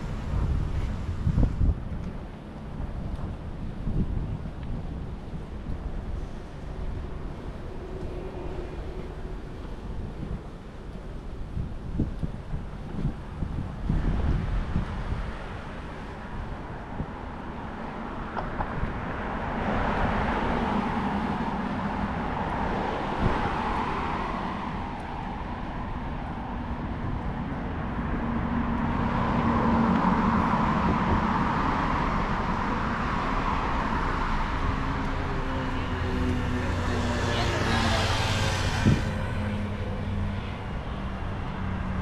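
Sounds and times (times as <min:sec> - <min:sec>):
cars passing: 0:00.0 - 0:42.0.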